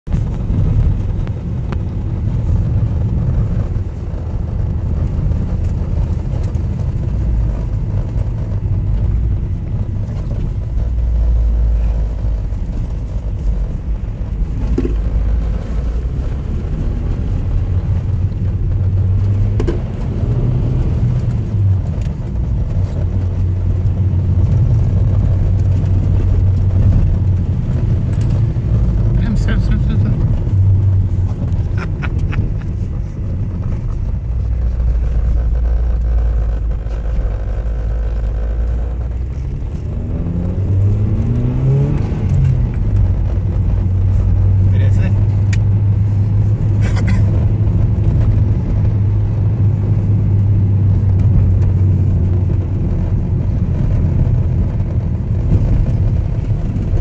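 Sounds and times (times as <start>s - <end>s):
car engine drone: 0.0s - 57.0s
road rumble: 0.0s - 57.0s.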